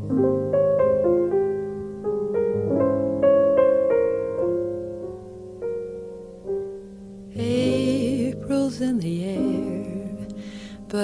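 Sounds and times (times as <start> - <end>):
piano notes and chords: 0.0 - 11.0.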